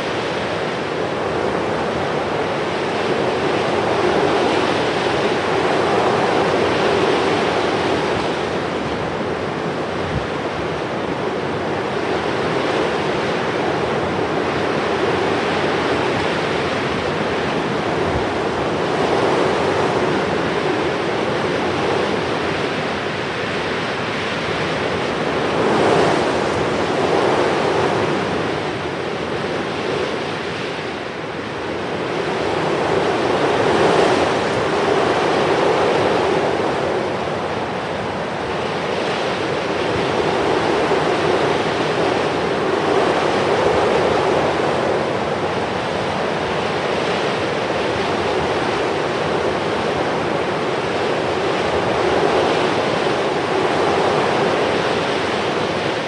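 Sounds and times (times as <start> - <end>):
rushing surf-like noise: 0.0 - 56.0.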